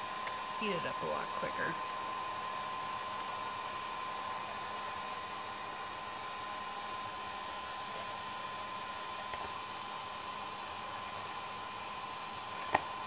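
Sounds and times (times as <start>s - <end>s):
heat gun whirring: 0.0s - 13.0s.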